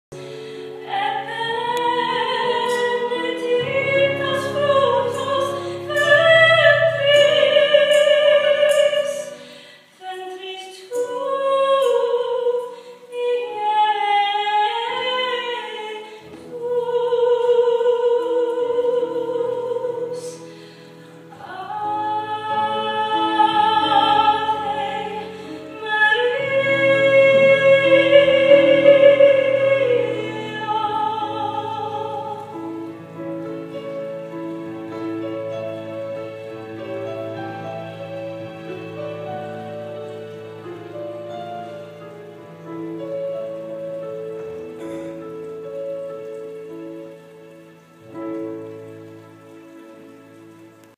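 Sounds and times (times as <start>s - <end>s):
woman singing operatic: 0.2s - 42.0s.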